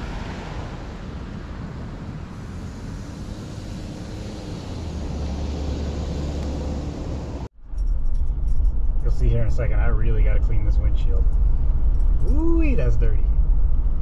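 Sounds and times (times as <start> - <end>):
road and engine drone: 0.0 - 14.0.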